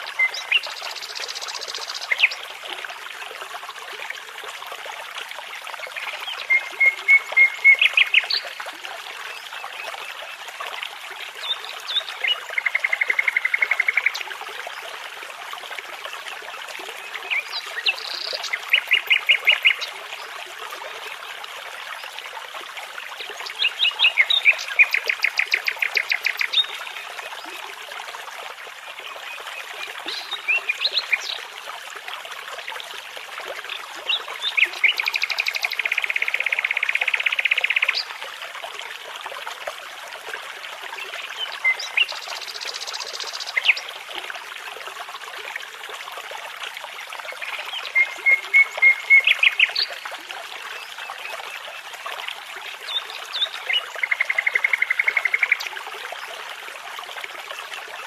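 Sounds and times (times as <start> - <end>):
babbling brook: 0.0 - 58.0.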